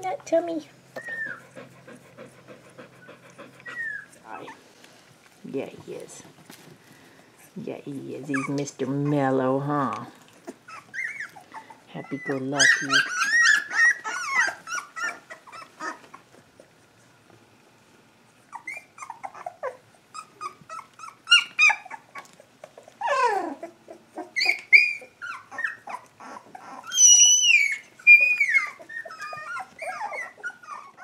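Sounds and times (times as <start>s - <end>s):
puppies whimpering and squealing: 0.9s - 4.7s, 7.4s - 17.1s, 18.4s - 31.0s.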